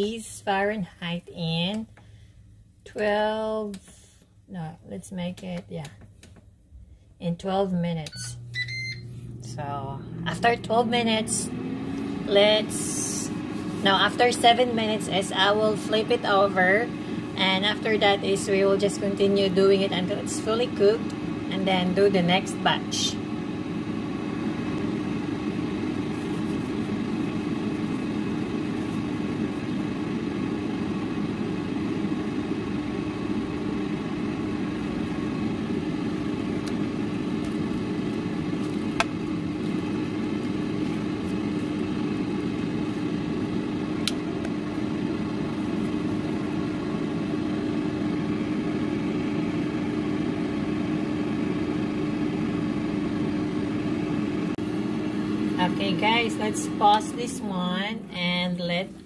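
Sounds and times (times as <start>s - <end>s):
air fryer fan humming: 5.1s - 59.0s.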